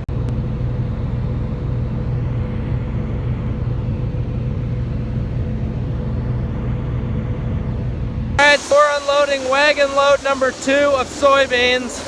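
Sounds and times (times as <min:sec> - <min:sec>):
grain machinery droning: 0:00.0 - 0:12.0.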